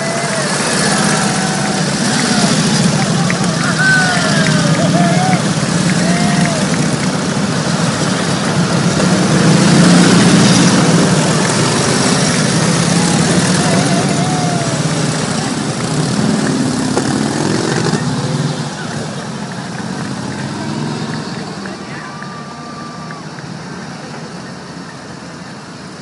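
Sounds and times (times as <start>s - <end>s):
motorcycle engines riding past: 0.0s - 26.0s.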